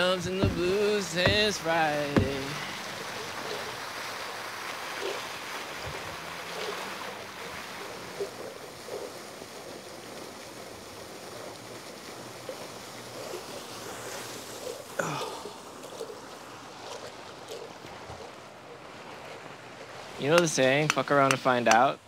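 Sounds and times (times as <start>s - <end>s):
fountain water splashing: 0.0s - 21.9s.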